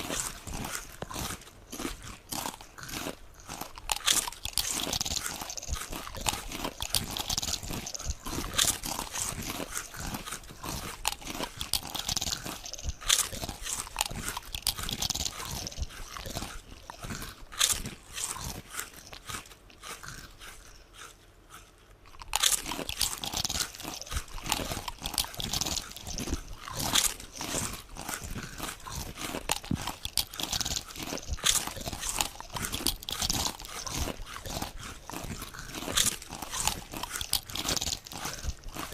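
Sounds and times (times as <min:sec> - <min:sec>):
potato chips crunching: 0:00.0 - 0:38.9.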